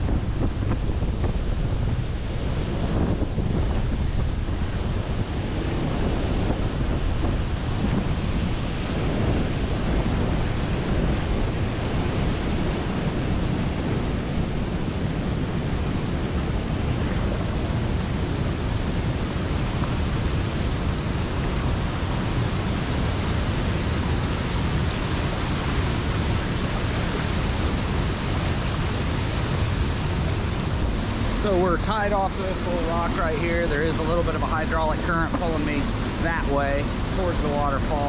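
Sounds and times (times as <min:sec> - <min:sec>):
large waterfall rushing: 0:00.0 - 0:38.0.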